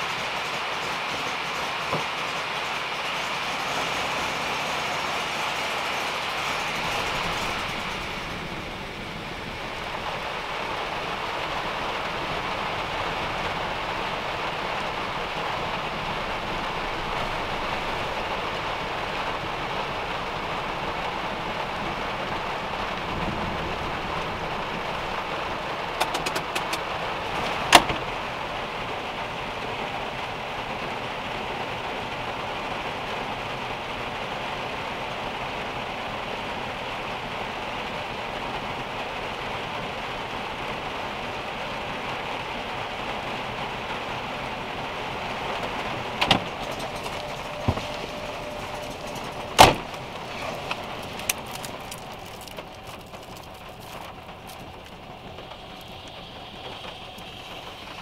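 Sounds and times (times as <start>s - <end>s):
rain on car roof: 0.0s - 58.0s.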